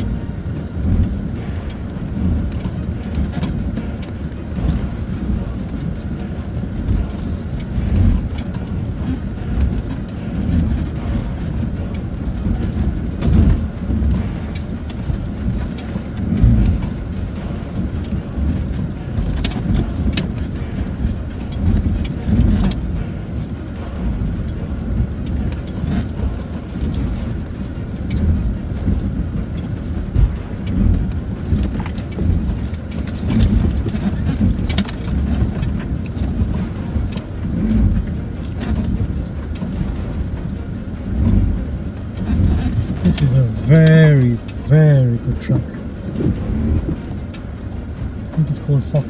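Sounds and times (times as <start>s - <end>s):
low rumble of engine and tyres: 0.0s - 49.0s
suspension thumps and knocks: 0.0s - 49.0s.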